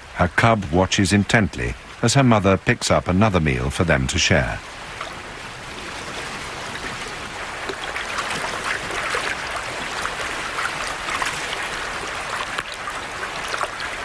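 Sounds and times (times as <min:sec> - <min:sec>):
creek water running: 0:00.0 - 0:14.0
water splashes: 0:00.0 - 0:14.0.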